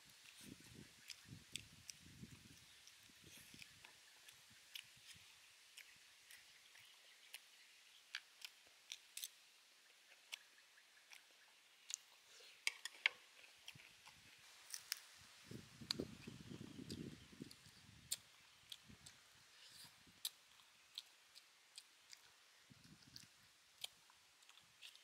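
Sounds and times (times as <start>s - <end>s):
low chewing noise: 0.0s - 25.0s.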